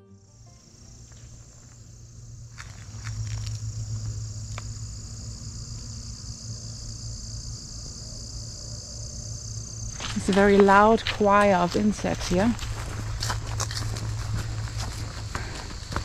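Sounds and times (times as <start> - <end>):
insects buzzing: 0.0 - 16.0
distant lawnmower hum: 0.2 - 16.0.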